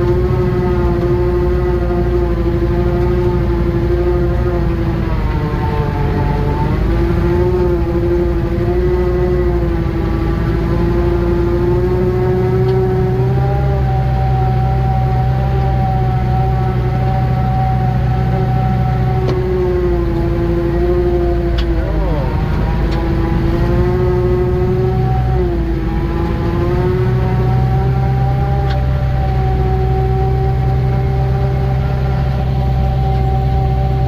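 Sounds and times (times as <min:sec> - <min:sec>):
forest machine engine running: 0:00.0 - 0:34.0.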